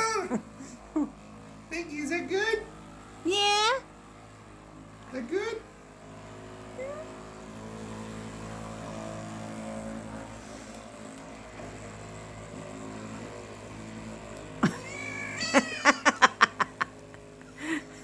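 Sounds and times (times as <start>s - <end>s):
electric massager motor hum: 0.0s - 18.0s.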